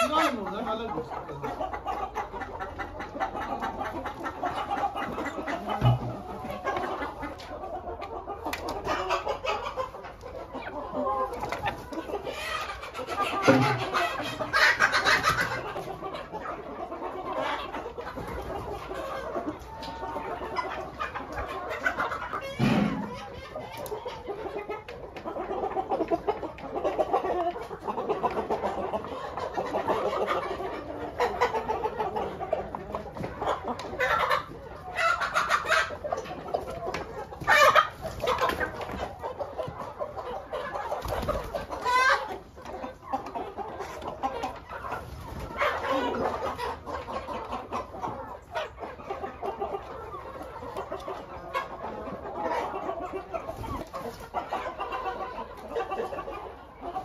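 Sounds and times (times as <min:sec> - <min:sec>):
hens and roosters clucking: 0:00.0 - 0:57.0
loud chicken calls: 0:00.0 - 0:57.0.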